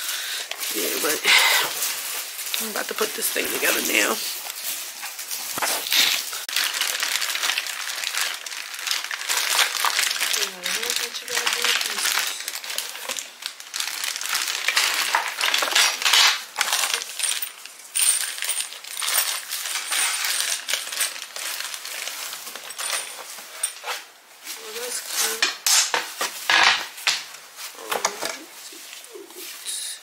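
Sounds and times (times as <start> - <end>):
toy parts rattling and clattering: 0.0 - 29.0
plastic bags crinkling: 0.0 - 30.0.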